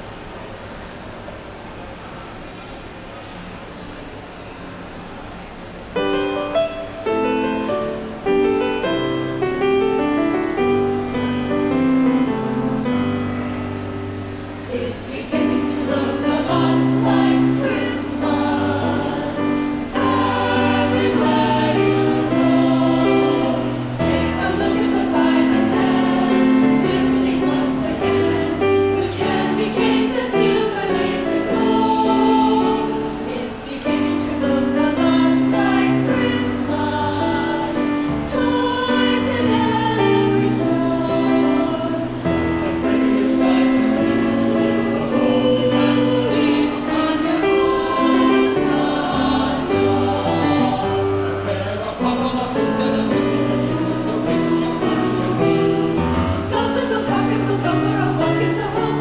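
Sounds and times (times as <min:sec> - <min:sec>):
piano accompaniment: 0:05.9 - 0:59.0
choir singing: 0:06.0 - 0:59.0.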